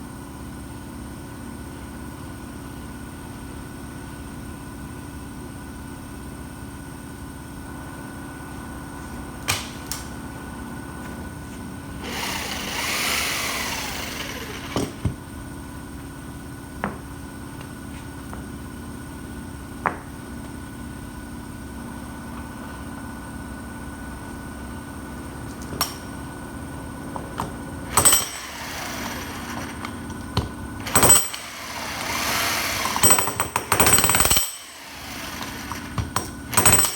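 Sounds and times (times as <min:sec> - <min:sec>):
mechanical hum: 0:00.0 - 0:36.9.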